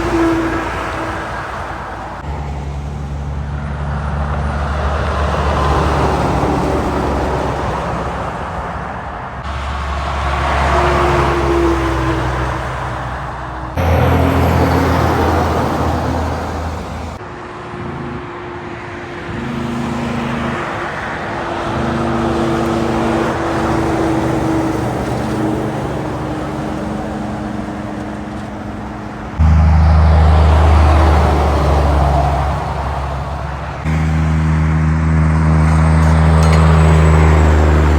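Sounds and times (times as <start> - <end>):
heavy trucks engine drone: 0.0 - 37.9
tyre and road noise: 0.0 - 37.9.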